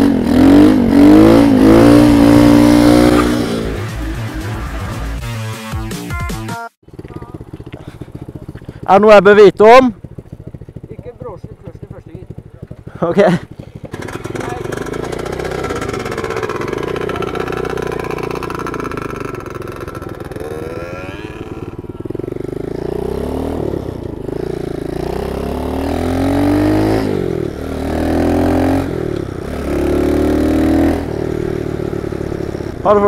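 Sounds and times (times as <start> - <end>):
motorbike engine accelerating: 0.0 - 5.1, 6.8 - 33.0.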